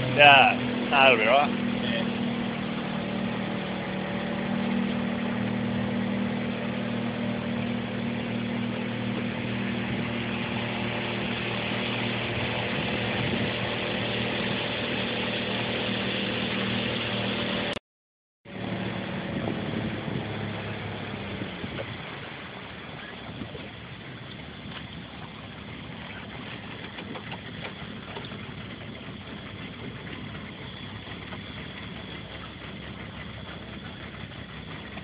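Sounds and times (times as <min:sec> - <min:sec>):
motorboat engine running: 0:00.0 - 0:17.8, 0:18.5 - 0:35.0
wind and water rushing: 0:00.0 - 0:17.8, 0:18.5 - 0:35.0.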